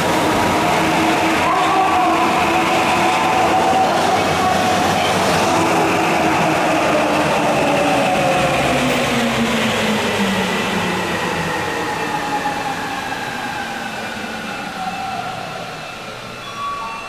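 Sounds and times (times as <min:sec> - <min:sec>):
subway train running with whines: 0:00.0 - 0:17.0.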